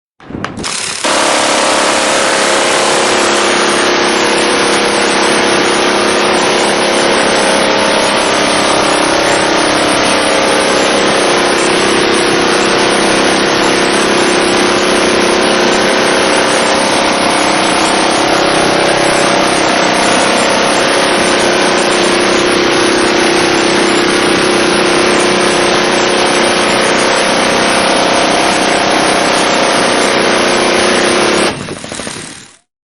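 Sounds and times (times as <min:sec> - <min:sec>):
minigun firing continuous burst: 0:00.2 - 0:32.7.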